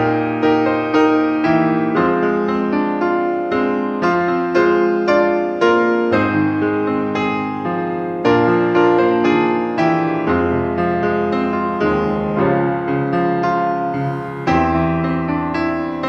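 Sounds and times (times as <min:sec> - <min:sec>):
grand piano playing hymn chords: 0:00.0 - 0:16.0.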